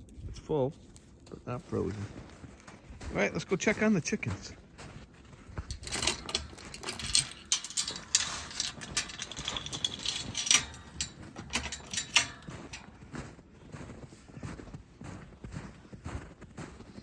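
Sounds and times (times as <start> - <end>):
footsteps crunching in snow: 0.0 - 17.0.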